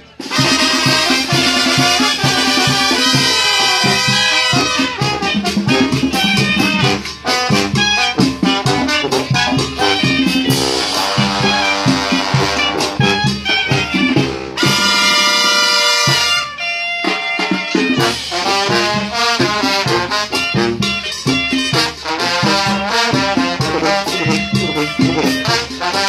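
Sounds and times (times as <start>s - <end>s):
brass band playing dance tune: 0.0s - 26.0s.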